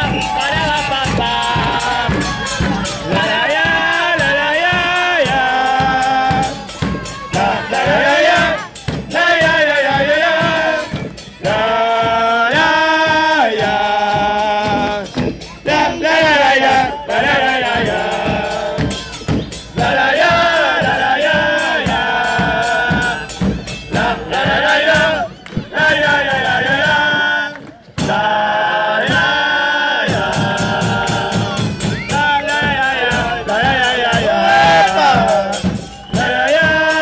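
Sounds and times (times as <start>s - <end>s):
driving percussion beat: 0.0s - 37.0s
group of voices singing: 0.0s - 37.0s.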